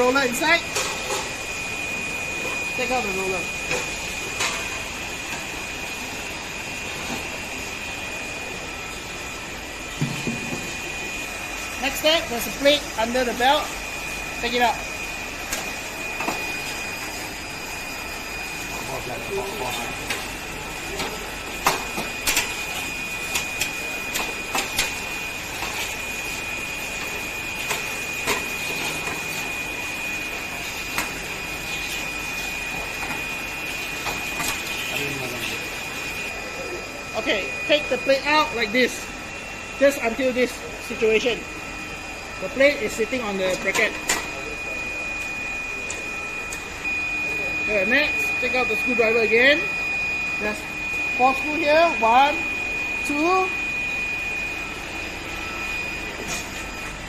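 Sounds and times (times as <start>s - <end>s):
machine hiss and whine: 0.0s - 57.0s.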